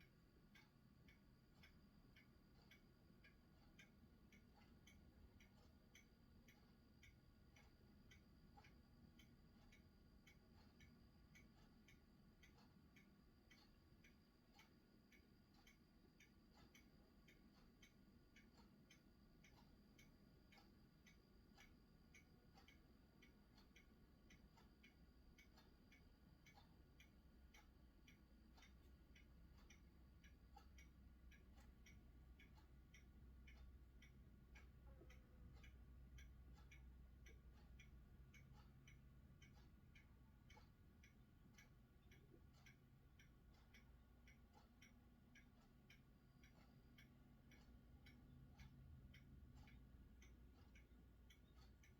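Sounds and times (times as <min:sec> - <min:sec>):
faint steady ticking: 0:00.0 - 0:51.9.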